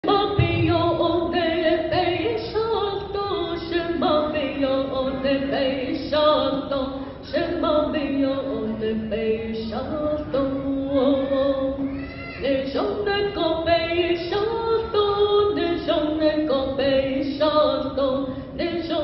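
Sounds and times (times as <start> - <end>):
woman singing unaccompanied: 0.0 - 19.0.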